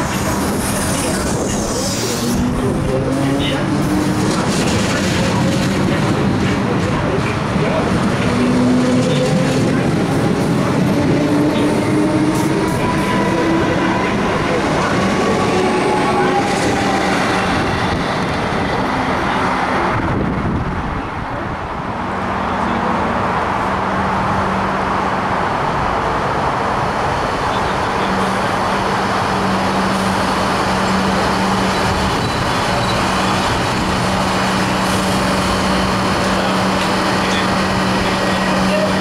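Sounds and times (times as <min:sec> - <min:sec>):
train low hum: 0:00.0 - 0:39.0
train rolling noise: 0:00.0 - 0:39.0.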